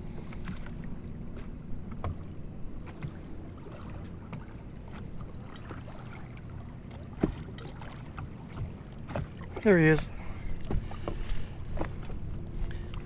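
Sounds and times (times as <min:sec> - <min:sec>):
low hum: 0:00.0 - 0:13.0
small waves lapping against hull: 0:00.0 - 0:13.0.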